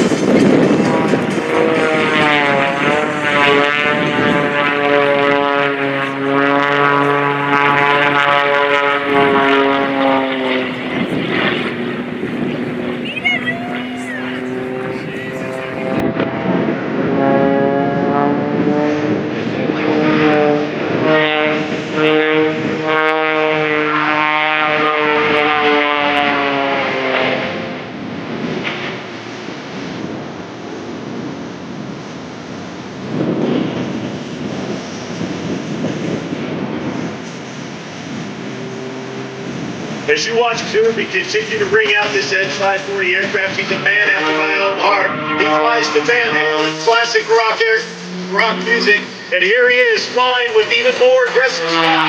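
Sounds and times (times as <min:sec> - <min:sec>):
propeller plane engine droning: 0:00.0 - 0:52.0.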